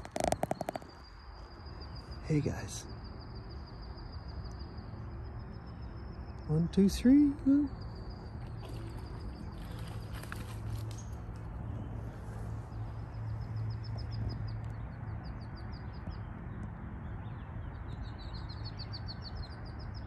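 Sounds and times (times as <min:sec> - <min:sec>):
bird chirping: 0:00.0 - 0:16.4, 0:17.0 - 0:20.0.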